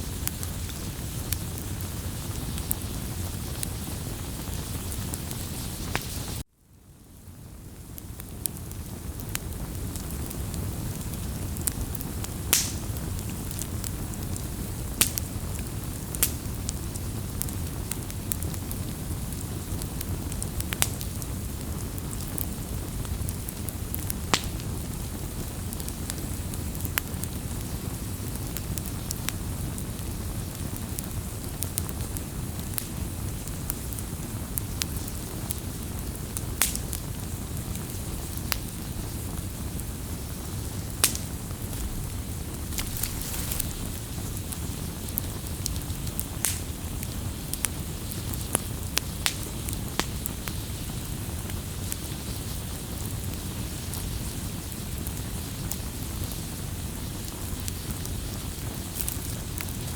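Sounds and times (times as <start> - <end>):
fire flames rushing: 0.0 - 6.4, 8.6 - 59.9
fire crackling and popping: 0.0 - 59.9.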